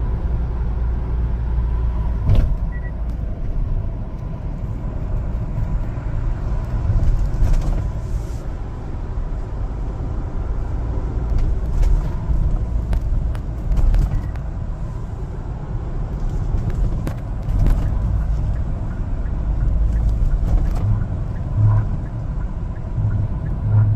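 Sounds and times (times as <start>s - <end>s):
truck engine and road rumble: 0.0s - 23.9s.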